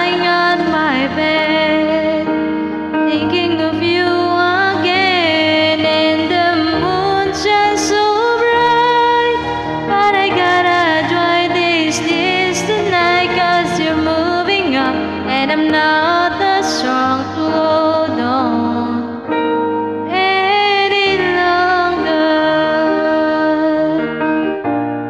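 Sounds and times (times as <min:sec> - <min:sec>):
woman singing pop ballad: 0:00.0 - 0:24.5
instrumental backing: 0:00.0 - 0:25.0.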